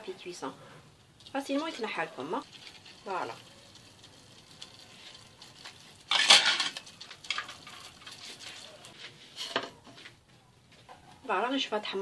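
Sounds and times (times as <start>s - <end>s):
dough sizzling in hot oil: 0.0s - 9.9s.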